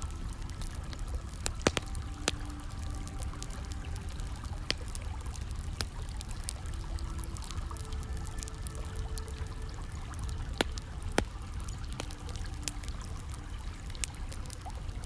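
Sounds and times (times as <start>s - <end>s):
campfire crackling and popping: 0.0s - 15.0s
water trickling and pouring: 0.0s - 15.0s.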